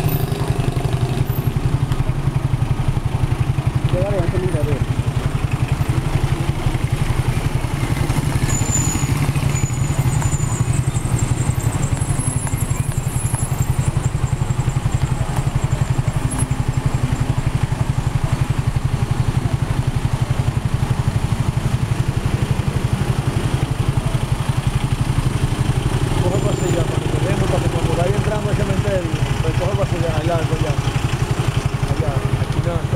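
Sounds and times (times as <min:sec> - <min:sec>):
car engines running: 0:00.0 - 0:32.9.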